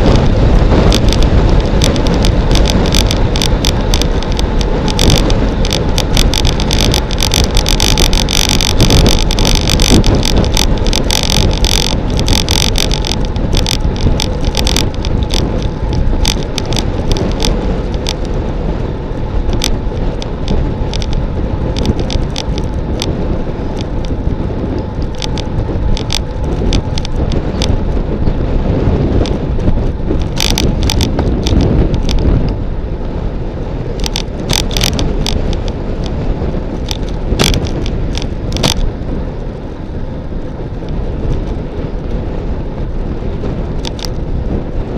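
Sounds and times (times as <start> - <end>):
sharp clicks and rattles: 0.0 - 32.6, 33.8 - 44.9
bike tyres on asphalt: 0.0 - 44.9
wind rushing over microphone: 0.0 - 44.9.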